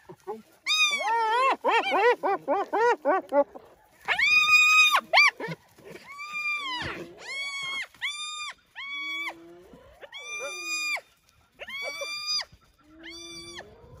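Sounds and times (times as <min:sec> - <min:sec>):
hyenas squealing: 0:00.1 - 0:14.0.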